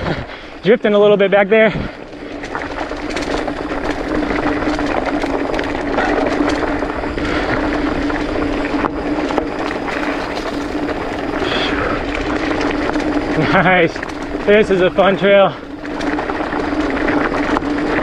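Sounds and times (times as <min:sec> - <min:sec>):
bike rattling over rough ground: 0:00.0 - 0:18.0
bike tires rolling over dirt: 0:00.0 - 0:18.0.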